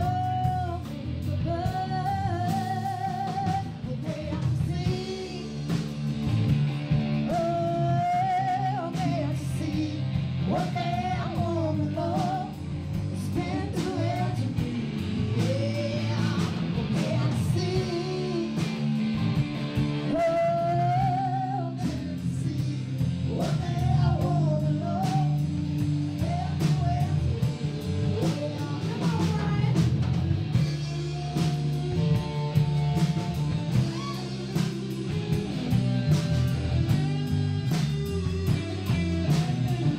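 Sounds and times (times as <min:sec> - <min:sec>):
woman singing lead: 0:00.0 - 0:06.0, 0:07.2 - 0:18.9, 0:20.0 - 0:39.9
drum kit beat: 0:00.0 - 0:39.9
electric bass: 0:00.0 - 0:39.9
electric guitar: 0:00.0 - 0:39.9.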